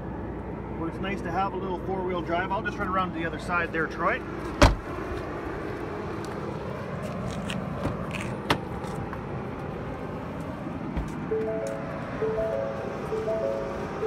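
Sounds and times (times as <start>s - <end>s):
outdoor noise: 0.0s - 14.0s.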